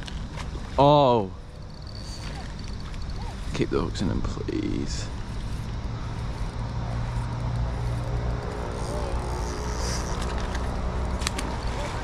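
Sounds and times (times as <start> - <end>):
road traffic engine hum: 0.0 - 12.0.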